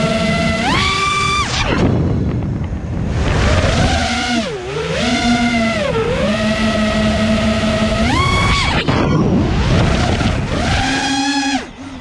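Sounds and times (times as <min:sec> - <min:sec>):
drone motors whining: 0:00.0 - 0:12.0
wind noise on microphone: 0:00.0 - 0:12.0.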